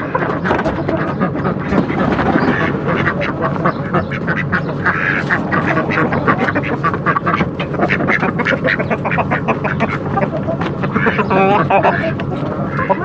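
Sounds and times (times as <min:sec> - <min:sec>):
poultry calling: 0:00.0 - 0:13.0.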